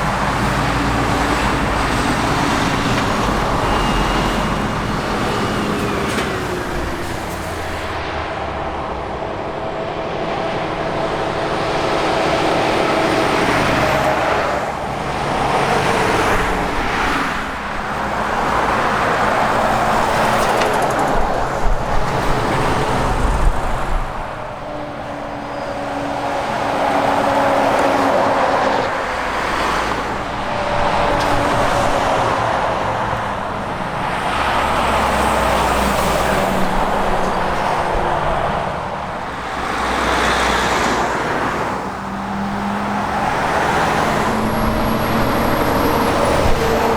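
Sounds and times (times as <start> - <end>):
trucks and vehicles driving past: 0.0 - 46.9.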